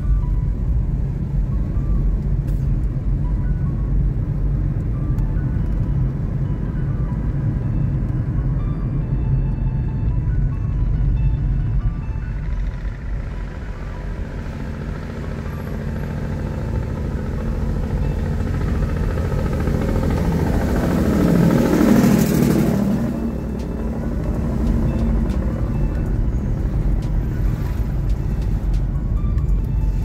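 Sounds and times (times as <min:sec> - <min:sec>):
car road and engine noise: 0:00.0 - 0:30.0
dump truck passing: 0:00.0 - 0:30.0.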